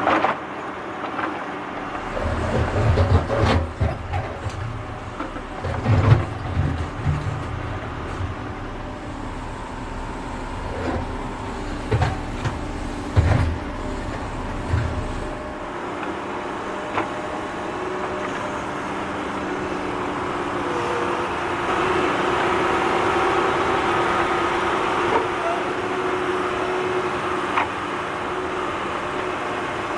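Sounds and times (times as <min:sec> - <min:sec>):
higher steady engine note: 0:01.1 - 0:29.9
tractor engine rumbling: 0:01.7 - 0:29.9.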